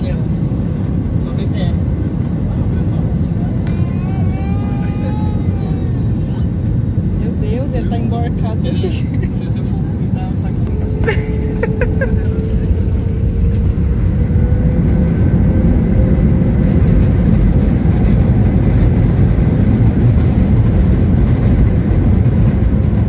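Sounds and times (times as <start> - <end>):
jet engines low rumble: 0.0 - 23.0.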